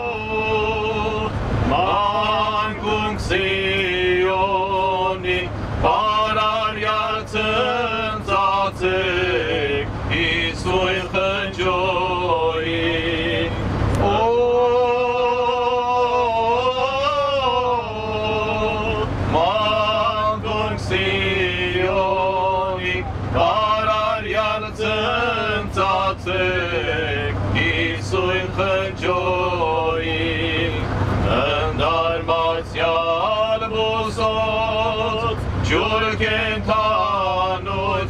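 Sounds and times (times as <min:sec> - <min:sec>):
low rumble of a moving bus: 0:00.0 - 0:38.0
man singing into a microphone: 0:00.0 - 0:38.0.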